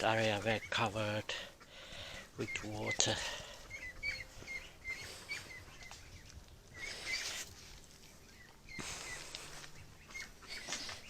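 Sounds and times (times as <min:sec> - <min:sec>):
small birds chirping: 0:00.0 - 0:11.0
soft hissing noise: 0:01.0 - 0:11.0.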